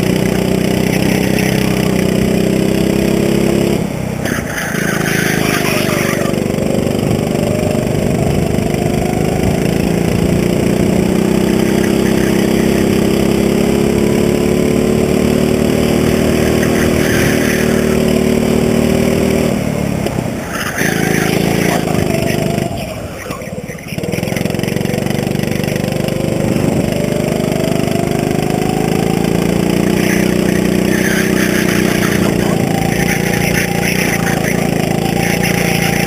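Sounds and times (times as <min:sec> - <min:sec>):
go-kart engine at full throttle: 0:00.0 - 0:36.0.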